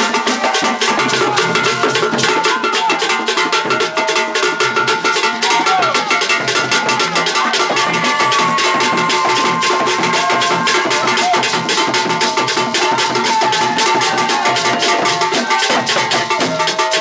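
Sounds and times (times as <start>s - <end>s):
fast hand drumming: 0.0s - 17.0s.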